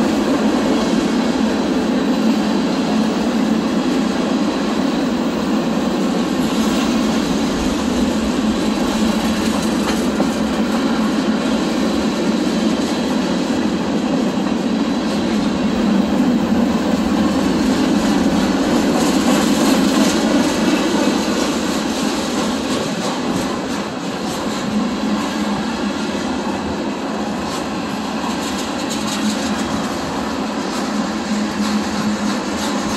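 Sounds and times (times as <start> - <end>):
freight train wheels on rails: 0.0 - 32.9.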